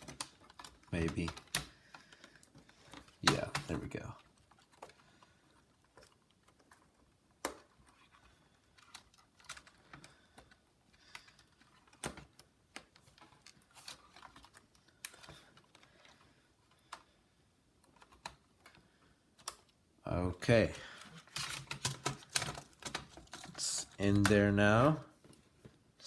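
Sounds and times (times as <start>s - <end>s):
laptop plastic parts clicking: 0.0s - 19.8s, 20.9s - 25.8s.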